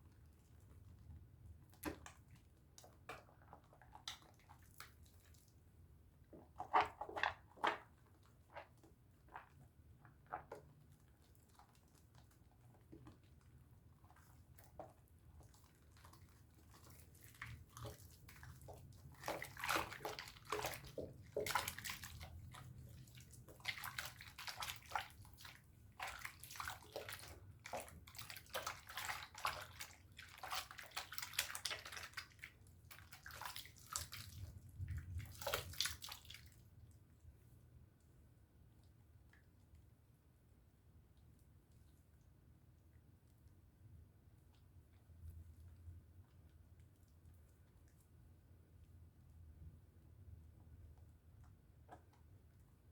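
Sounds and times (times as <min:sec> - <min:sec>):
wet squishing of soap lather: 0:00.0 - 0:52.9.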